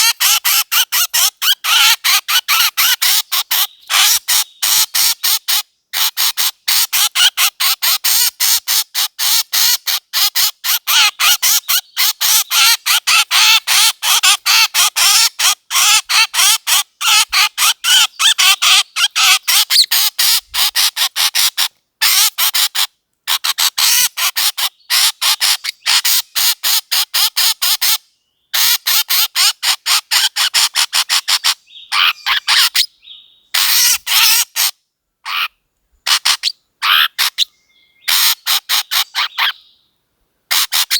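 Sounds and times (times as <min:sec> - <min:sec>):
rapid high bird calls: 0:00.0 - 0:39.8, 0:40.5 - 0:40.9.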